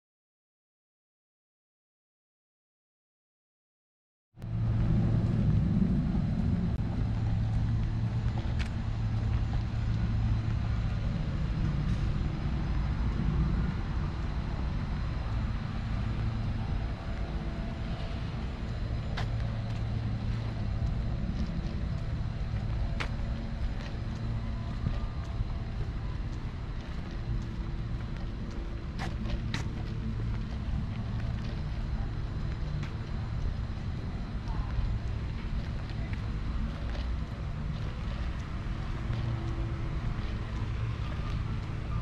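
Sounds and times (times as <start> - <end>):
low hum and rumble: 4.4 - 42.0.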